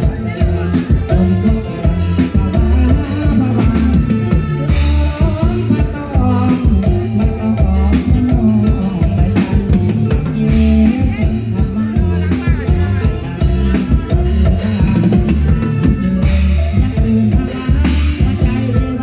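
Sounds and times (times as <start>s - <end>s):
band music with drums and bass: 0.0s - 19.0s.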